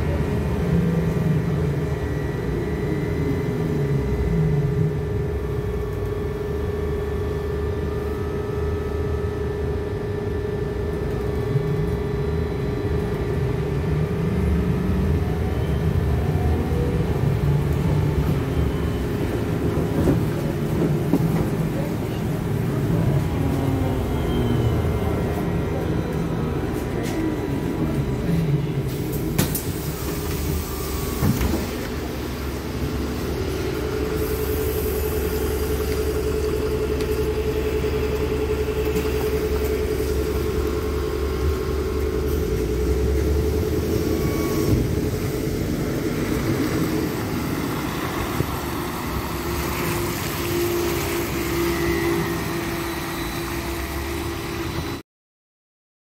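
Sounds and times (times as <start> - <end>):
trolleybus low rumble: 0.0 - 55.0.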